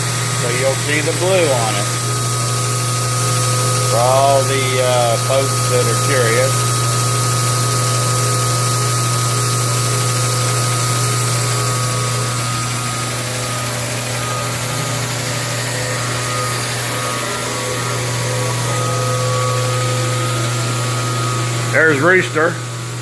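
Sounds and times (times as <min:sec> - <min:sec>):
blade grinding hiss: 0:00.0 - 0:23.0
knife grinder motor hum: 0:00.0 - 0:23.0.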